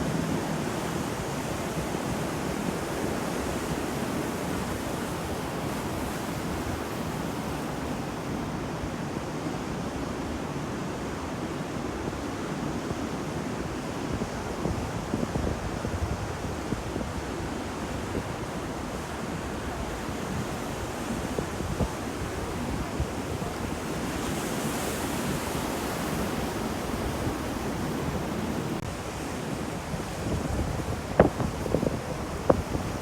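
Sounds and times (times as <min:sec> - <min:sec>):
sea waves washing onto shore: 0:00.0 - 0:15.1, 0:16.6 - 0:33.0.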